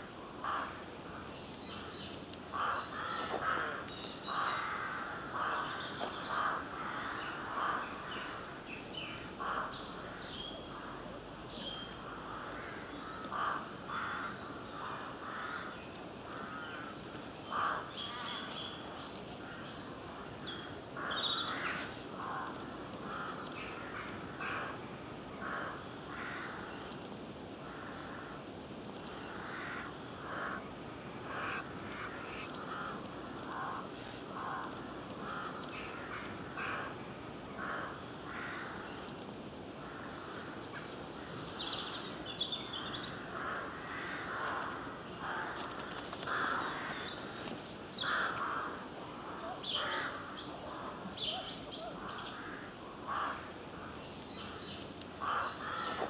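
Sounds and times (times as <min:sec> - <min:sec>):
birds calling: 0:00.0 - 0:56.0.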